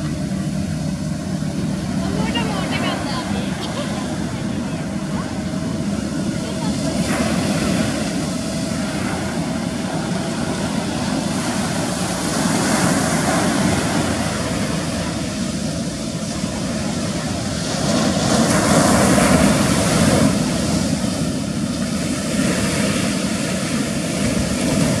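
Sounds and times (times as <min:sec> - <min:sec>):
small outboard motor running: 0:00.0 - 0:25.0
surf breaking around hull: 0:00.0 - 0:25.0.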